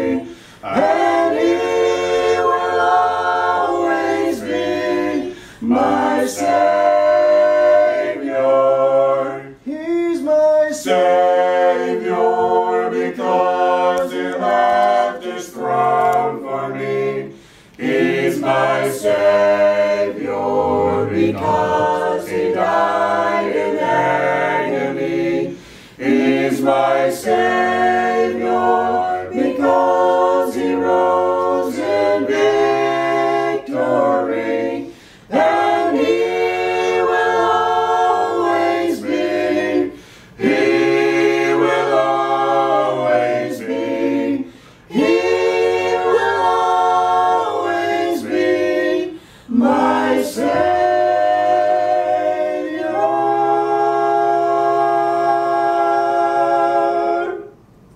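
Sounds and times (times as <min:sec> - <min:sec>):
group singing a hymn a cappella: 0:00.0 - 0:57.9.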